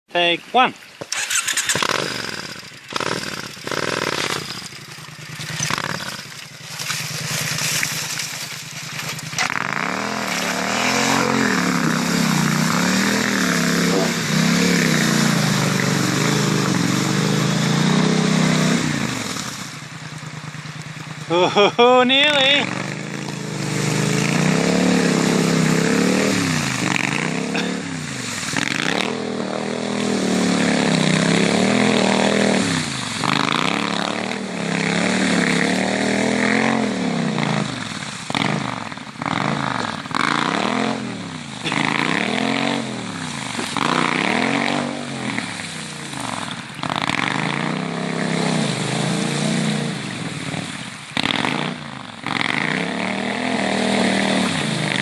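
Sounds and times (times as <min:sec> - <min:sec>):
motorcycle engine revving: 0:01.1 - 0:55.0.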